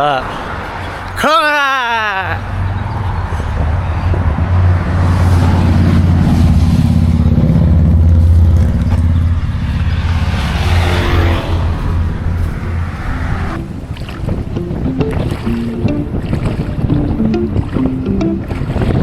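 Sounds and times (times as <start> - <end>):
vehicle passing close by: 2.4 - 19.0.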